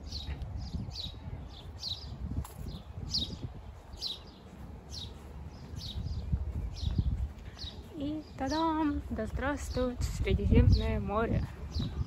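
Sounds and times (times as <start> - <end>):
songbird calling: 0.0 - 10.0.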